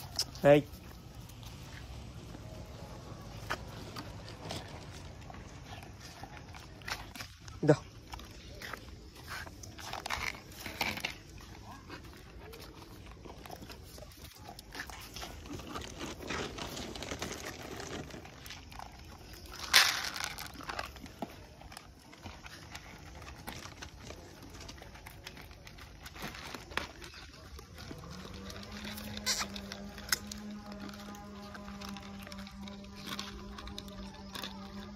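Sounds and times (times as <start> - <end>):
dogs crunching dry kibble: 0.0 - 34.9.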